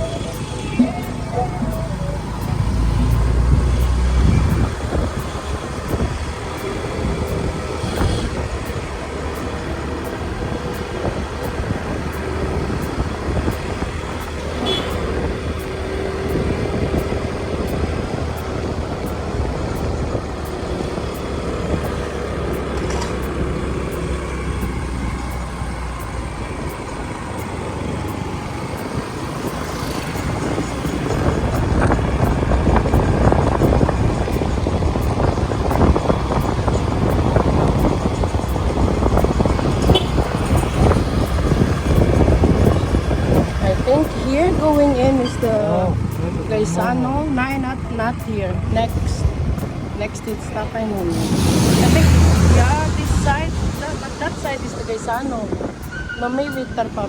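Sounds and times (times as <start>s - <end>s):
motorbike engine on a road: 0.0s - 57.0s.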